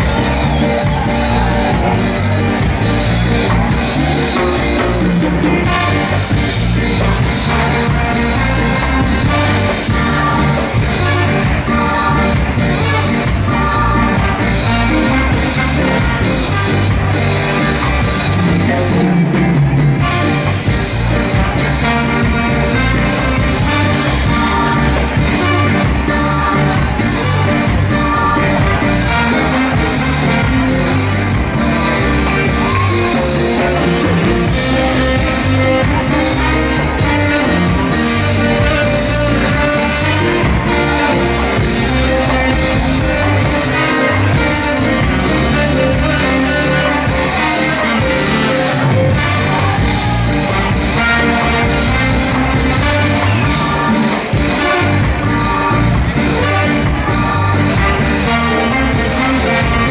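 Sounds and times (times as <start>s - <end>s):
live ska band playing: 0.0s - 59.9s.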